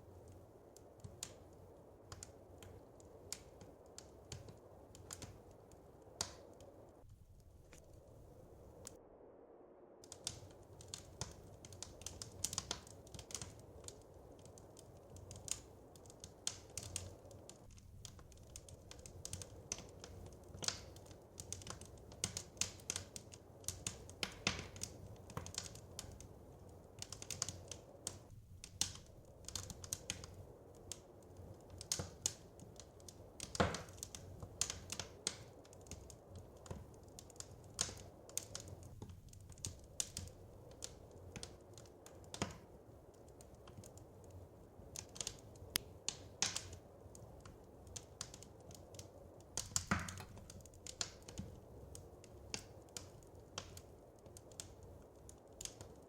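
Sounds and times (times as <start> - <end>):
wood fire crackling: 0.0 - 9.0, 9.9 - 56.0.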